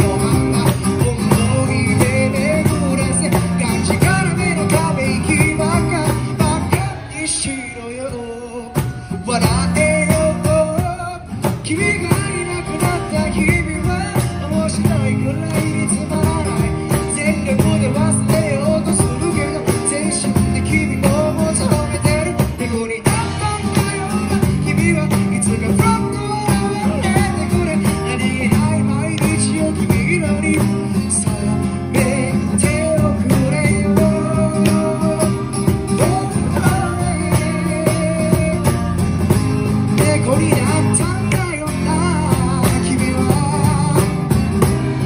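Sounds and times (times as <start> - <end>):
cajon beat: 0.0 - 45.0
person singing through microphone: 0.0 - 45.0
strummed acoustic guitar: 0.0 - 45.0.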